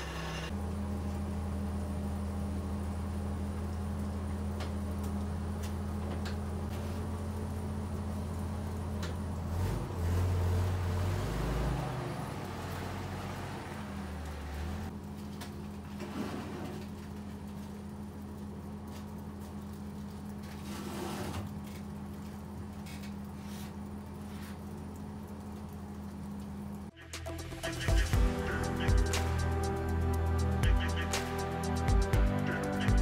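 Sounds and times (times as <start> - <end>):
forklift engine humming: 0.0 - 20.7, 21.4 - 33.0.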